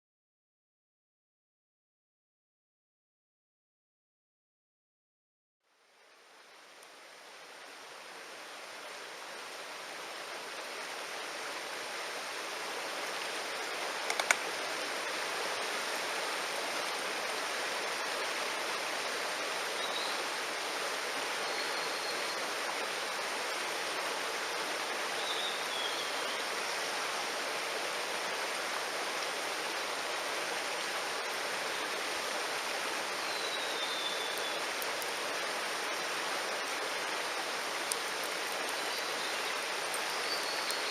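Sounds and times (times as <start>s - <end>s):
mountain stream rushing: 6.0s - 40.9s.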